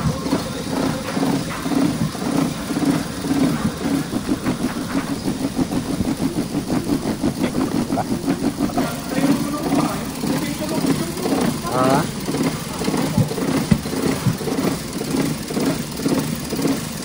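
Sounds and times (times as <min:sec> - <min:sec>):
car engine idling roughly: 0:00.1 - 0:17.0.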